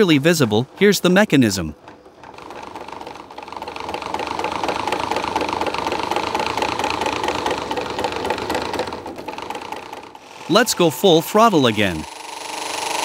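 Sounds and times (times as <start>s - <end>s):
electric drill motor whine: 1.9s - 13.0s.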